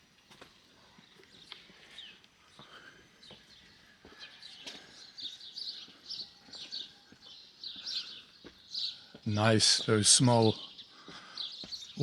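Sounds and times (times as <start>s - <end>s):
footsteps on stone: 0.3s - 10.0s, 11.0s - 12.0s
small birds chirping: 0.5s - 12.0s.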